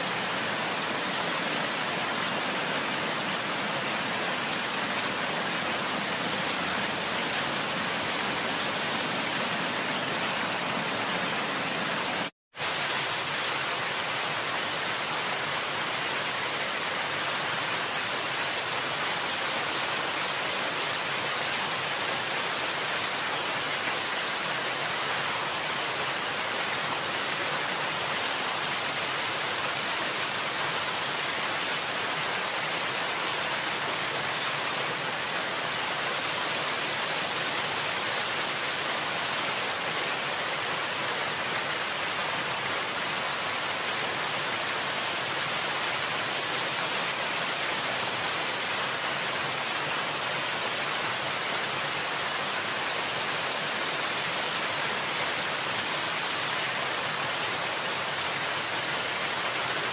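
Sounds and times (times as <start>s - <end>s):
falling water rushing: 0.0s - 59.9s.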